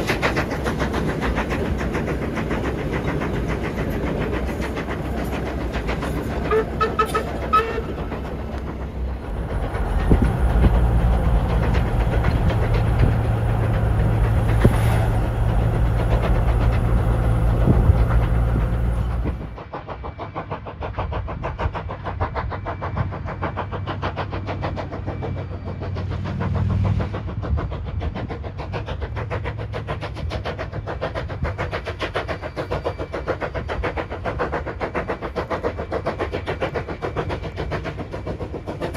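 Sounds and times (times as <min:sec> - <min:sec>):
steam locomotive chuffing: 0:00.0 - 0:38.9.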